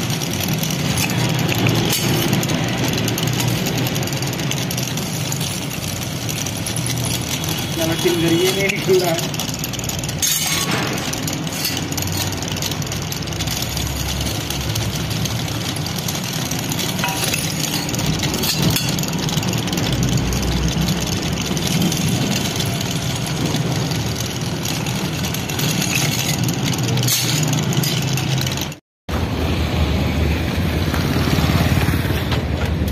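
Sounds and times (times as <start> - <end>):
drill bit scraping steel: 0.0 - 28.8
drill motor running: 0.0 - 28.8.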